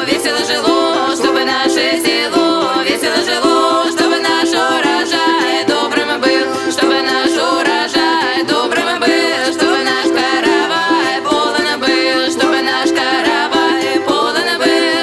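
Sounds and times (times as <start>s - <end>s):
person singing: 0.0s - 15.0s
plucked string accompaniment: 0.0s - 15.0s.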